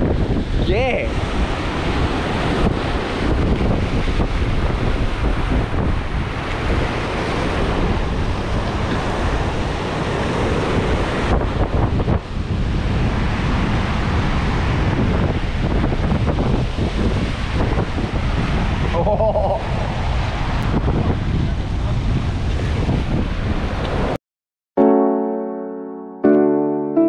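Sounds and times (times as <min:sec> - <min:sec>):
ocean surf breaking over rocks: 0:00.0 - 0:24.2
wind buffeting microphone: 0:00.0 - 0:24.2.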